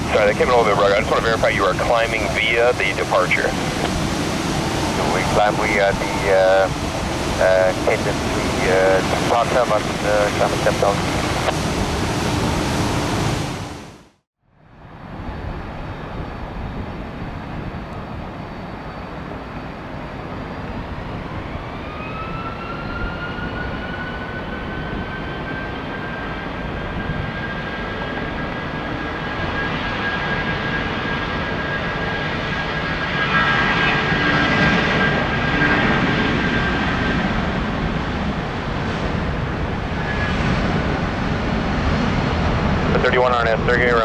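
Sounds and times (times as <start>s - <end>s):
jet engine rumble: 0.0s - 44.0s
jet engine whine: 0.0s - 44.0s.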